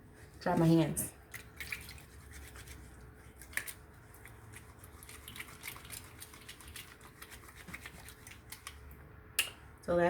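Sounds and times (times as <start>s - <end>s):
soapy hands squishing: 0.0s - 9.4s.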